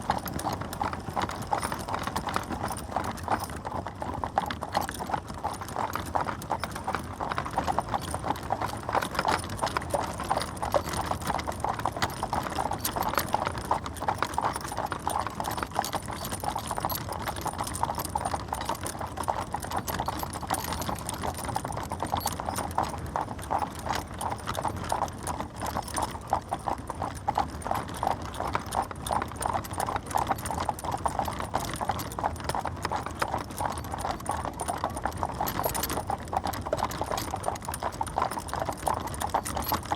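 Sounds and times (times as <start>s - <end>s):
horse hooves clip-clopping: 0.0s - 39.9s.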